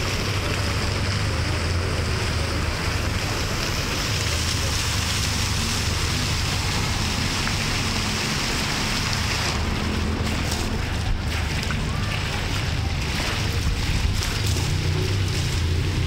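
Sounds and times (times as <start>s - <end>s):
city background noise: 0.0s - 16.0s.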